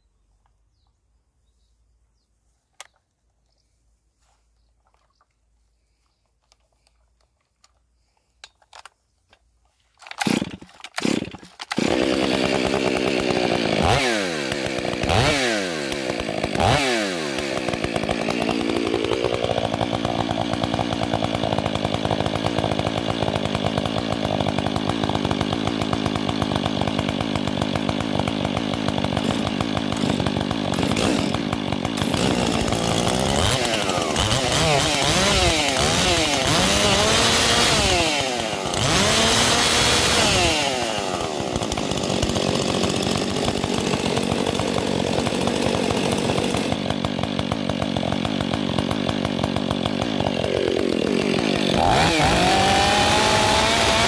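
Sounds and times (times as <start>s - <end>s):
chainsaw pull cord: 9.8s - 54.0s
chainsaw engine revving: 10.0s - 54.0s.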